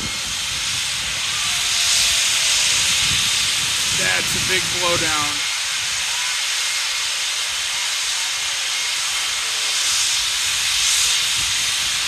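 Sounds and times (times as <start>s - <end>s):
loud steam hiss: 0.0s - 12.0s.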